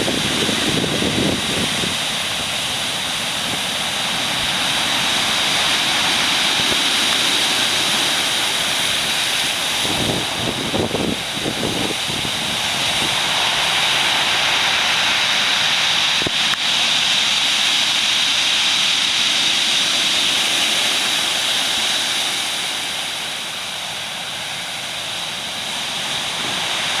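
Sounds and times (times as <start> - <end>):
roar of heavy surf: 0.0 - 27.0.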